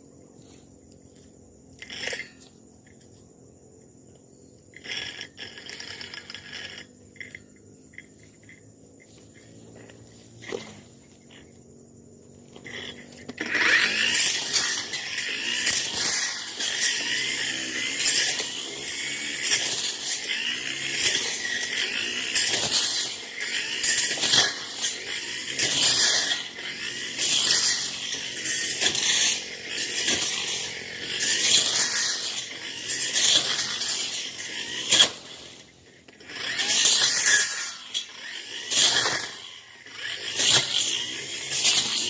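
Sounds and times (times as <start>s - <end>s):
brush cutter cutting brush: 0.3s - 42.0s.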